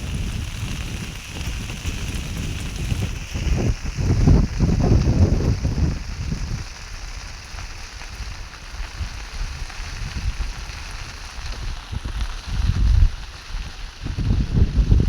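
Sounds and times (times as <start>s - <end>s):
steady rain hissing: 0.0s - 15.0s
wind buffeting microphone: 0.0s - 15.0s.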